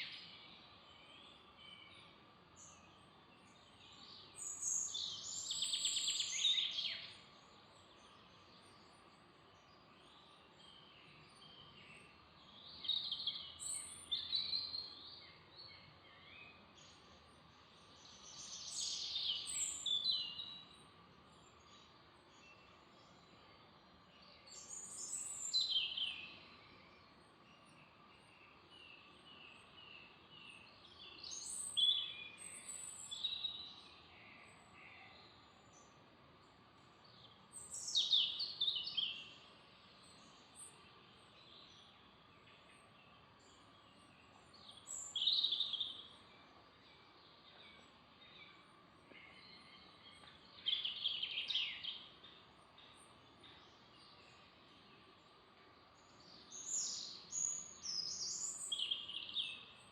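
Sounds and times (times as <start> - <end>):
faint background hiss: 0.0 - 59.9
songbird singing: 0.0 - 59.9.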